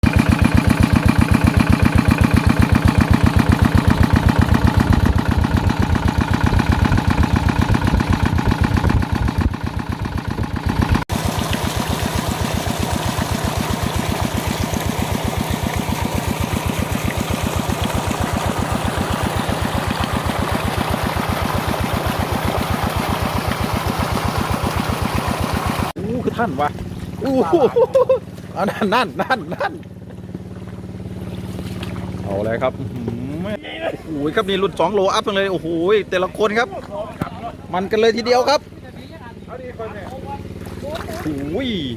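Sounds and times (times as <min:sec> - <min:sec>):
water pump engine chugging: 0:00.0 - 0:41.9.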